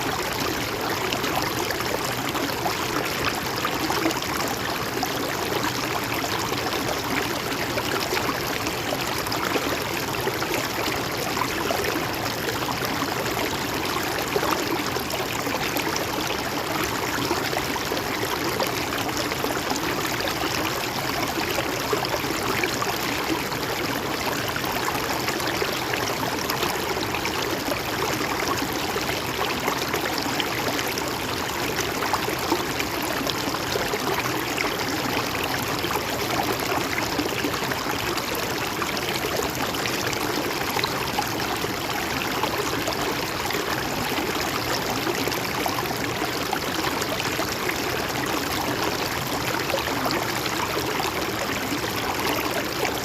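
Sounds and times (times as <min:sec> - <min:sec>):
stream flowing and babbling: 0:00.0 - 0:53.0.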